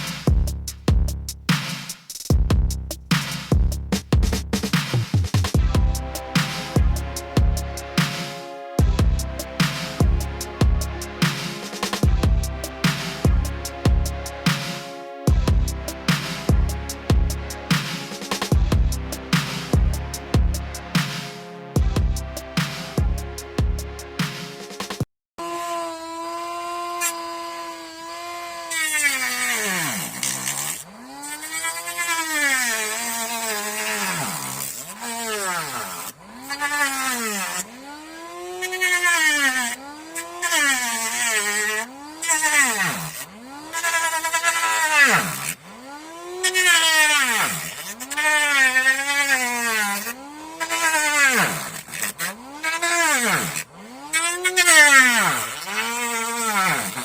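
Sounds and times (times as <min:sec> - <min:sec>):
small motor whining: 0:05.6 - 0:24.6, 0:25.4 - 0:57.0.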